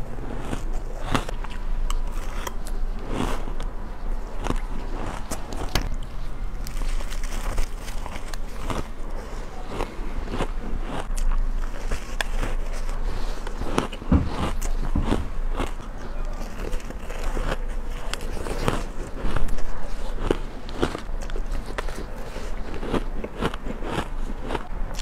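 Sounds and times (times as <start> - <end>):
crunching ice between teeth: 0.0 - 25.0.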